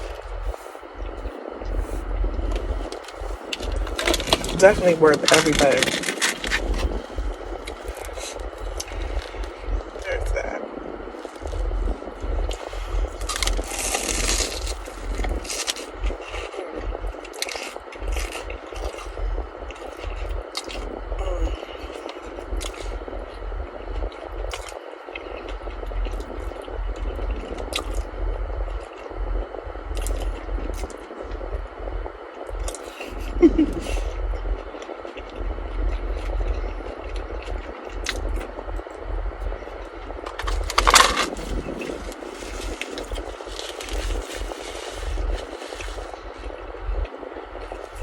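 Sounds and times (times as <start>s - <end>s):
chewing and crunching: 0.0s - 48.0s
steady low rumble: 0.0s - 48.0s.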